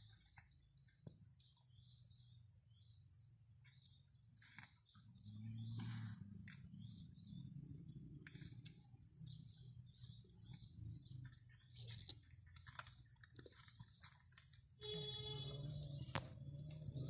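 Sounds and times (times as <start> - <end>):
birds chirping faintly: 0.0 - 17.0
cats chewing and crunching: 0.0 - 17.0.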